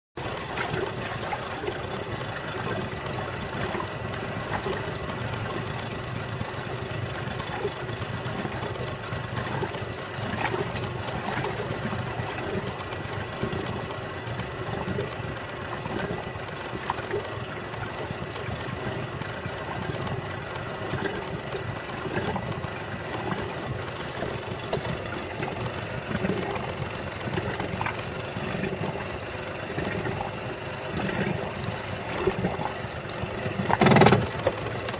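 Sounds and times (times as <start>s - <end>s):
water noise around boat: 0.2s - 34.9s
wind: 0.2s - 34.9s.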